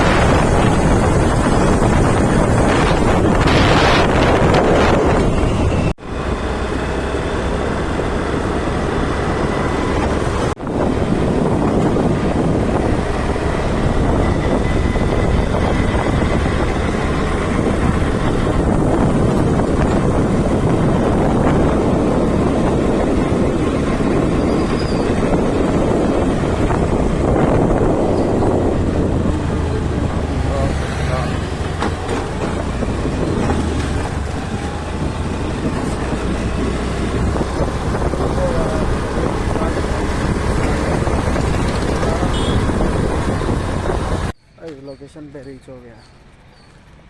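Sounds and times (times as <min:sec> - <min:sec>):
wind buffeting microphone: 0:00.0 - 0:44.4
vehicle road and engine noise: 0:00.0 - 0:47.0.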